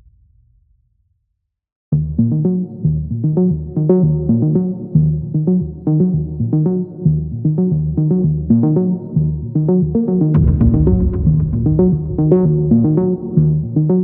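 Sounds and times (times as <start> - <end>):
synthesizer and keyboard music: 2.0 - 14.0.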